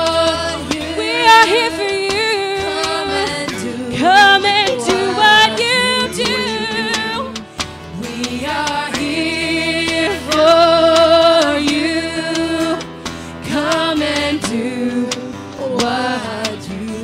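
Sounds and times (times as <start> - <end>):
acoustic guitars: 0.0 - 17.0
keyboard: 0.0 - 17.0
woman singing: 0.0 - 17.0.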